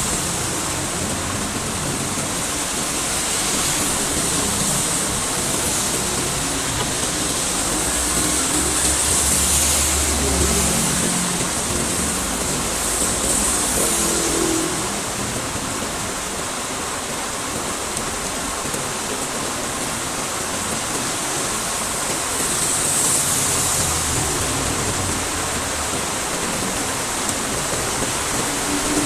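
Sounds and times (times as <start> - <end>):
heavy rain pouring: 0.0 - 29.0
traffic passing on wet road: 0.0 - 29.0.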